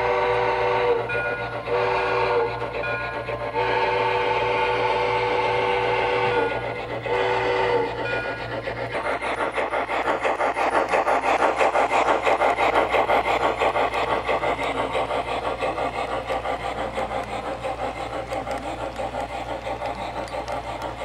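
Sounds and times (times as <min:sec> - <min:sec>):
model steam locomotive chuffing: 0:00.0 - 0:21.0.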